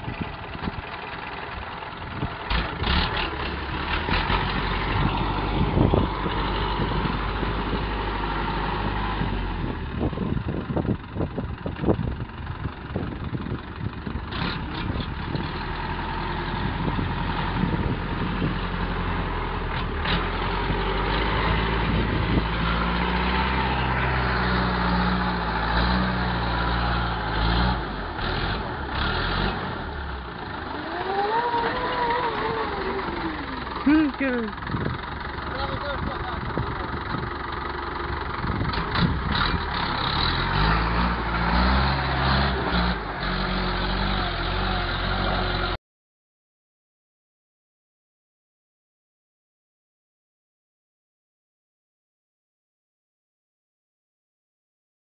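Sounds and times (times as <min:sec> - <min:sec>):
tractor engine running: 0:00.0 - 0:45.8.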